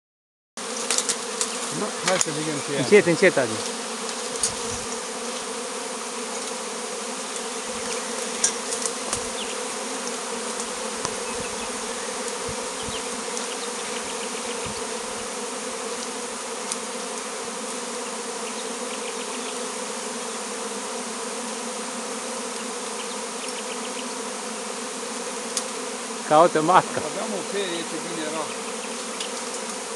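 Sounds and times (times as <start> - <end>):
swarm of bees buzzing: 0.6 - 29.9.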